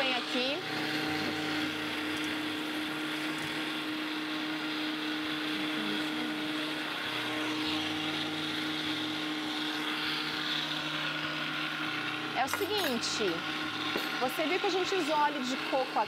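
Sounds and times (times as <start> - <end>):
blender motor running: 0.0 - 16.0.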